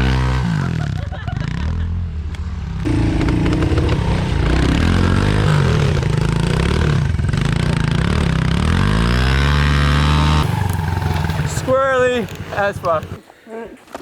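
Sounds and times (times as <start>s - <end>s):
pit bike engine revving: 0.0s - 13.2s.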